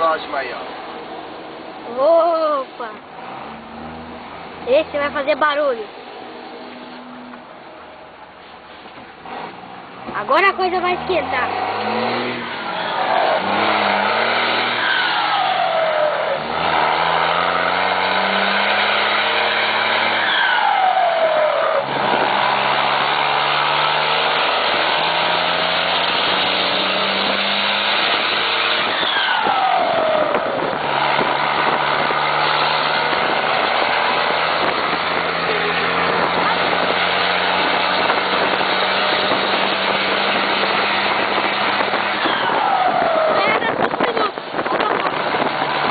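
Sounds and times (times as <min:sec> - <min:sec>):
diesel truck engine under load: 0:00.0 - 0:45.9.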